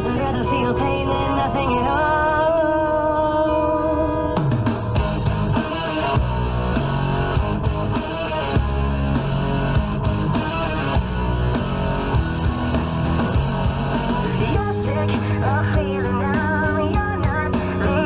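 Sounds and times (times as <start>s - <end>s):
rock music electric guitar: 0.0s - 18.0s.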